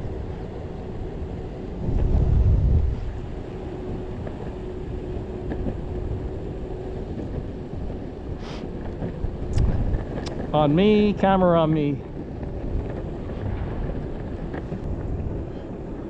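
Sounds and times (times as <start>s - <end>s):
wheels rolling on pavement: 0.0s - 16.0s
wind buffeting microphone: 0.0s - 16.0s.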